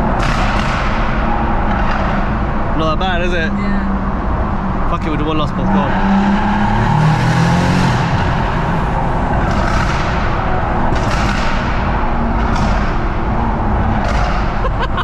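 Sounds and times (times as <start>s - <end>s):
car engine roaring: 0.0s - 15.0s.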